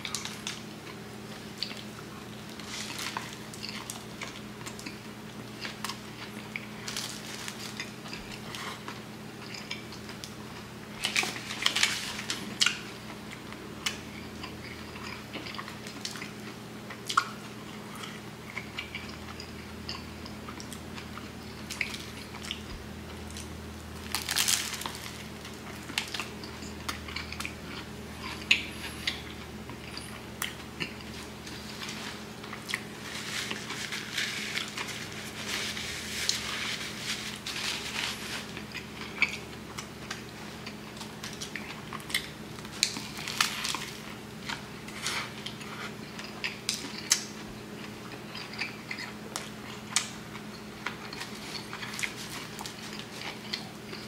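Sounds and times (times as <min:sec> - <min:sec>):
crusty bread crunching: 0:00.0 - 0:54.0.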